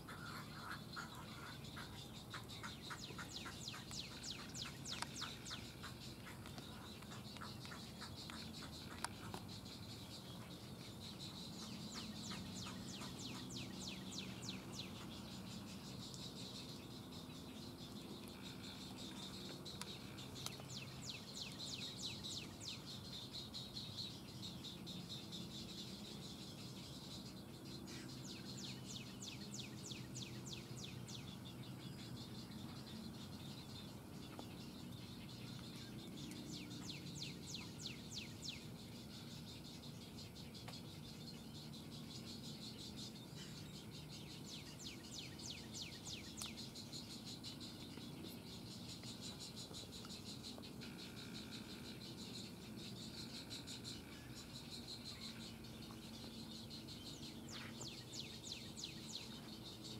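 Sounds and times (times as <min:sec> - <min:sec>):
birds calling in clicking trains: 0:00.0 - 0:59.9.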